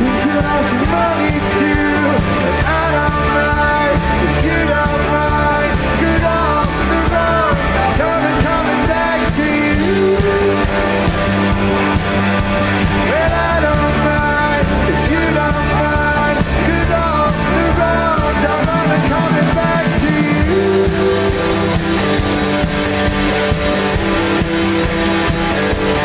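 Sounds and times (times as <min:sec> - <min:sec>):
bass and drums: 0:00.0 - 0:26.0
lead guitar line: 0:00.0 - 0:26.0.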